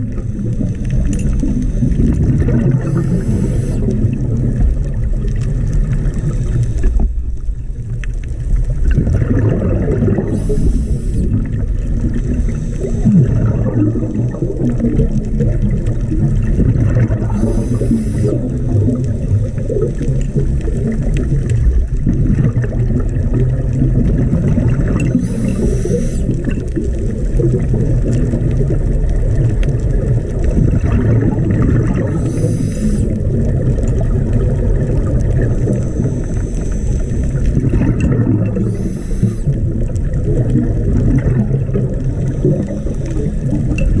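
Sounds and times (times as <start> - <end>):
bubbling exhaled air hisses: 0.0 - 7.4, 8.6 - 44.0
low underwater rumble: 0.0 - 44.0.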